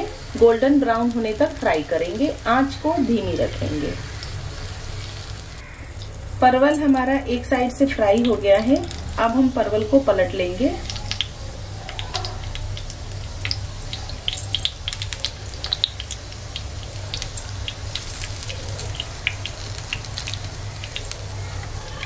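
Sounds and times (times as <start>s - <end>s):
oil crackling and spitting: 0.0s - 6.4s, 8.2s - 9.3s, 10.7s - 22.0s.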